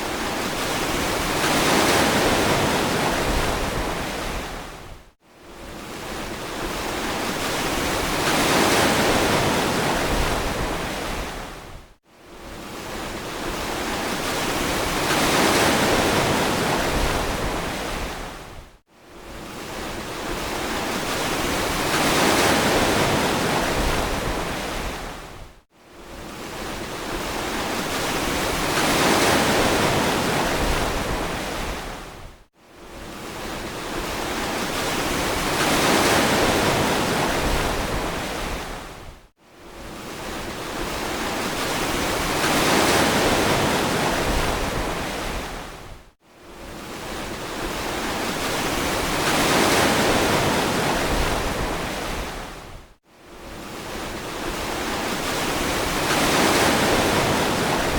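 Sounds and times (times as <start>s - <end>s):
ocean waves washing onto beach: 0.0s - 4.9s, 5.5s - 11.8s, 12.4s - 18.6s, 19.2s - 39.1s, 39.7s - 46.0s, 46.6s - 52.8s, 53.4s - 57.9s.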